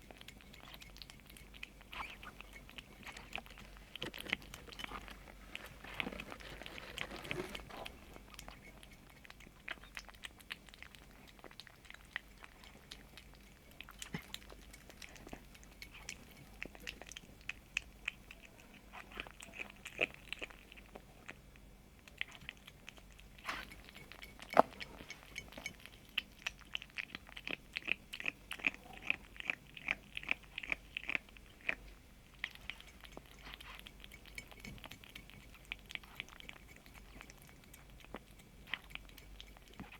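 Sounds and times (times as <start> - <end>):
kitten crunching food: 0.0 - 39.9.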